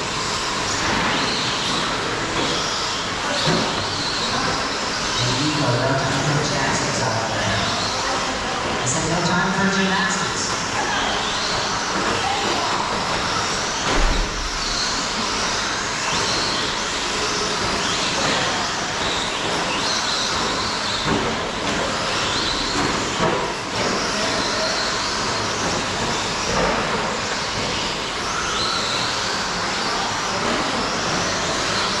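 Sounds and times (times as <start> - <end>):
rc truck motors whining: 0.0 - 8.8, 10.5 - 32.0.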